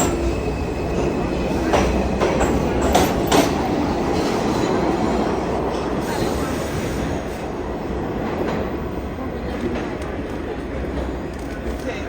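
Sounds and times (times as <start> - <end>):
subway train wheels rumbling on rail: 0.0 - 12.0.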